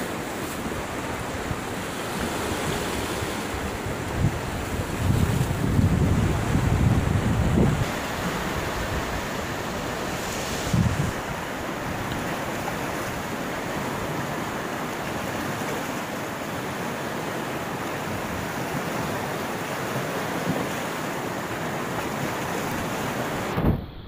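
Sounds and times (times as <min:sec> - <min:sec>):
river rushing through rapids: 0:00.0 - 0:23.8.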